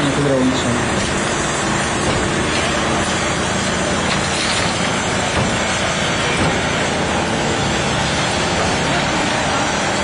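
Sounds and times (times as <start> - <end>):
hydraulic power unit running: 0.0 - 10.0.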